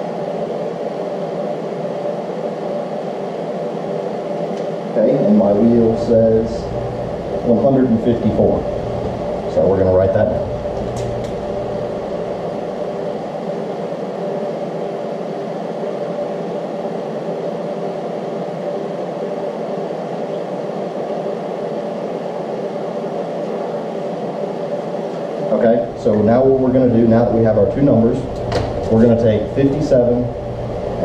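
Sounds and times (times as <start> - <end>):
machine whirring hum: 0.0 - 31.0.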